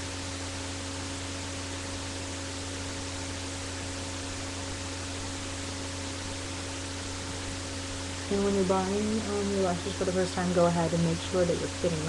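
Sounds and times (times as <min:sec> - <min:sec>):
low electrical hum: 0:00.0 - 0:12.0
microphone hiss: 0:00.0 - 0:12.0.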